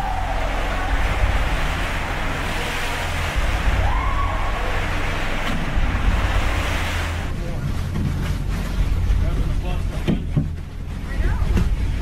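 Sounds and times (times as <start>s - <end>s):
deep steady rumble: 0.0s - 12.0s
pool water sloshing and surging: 0.0s - 12.0s.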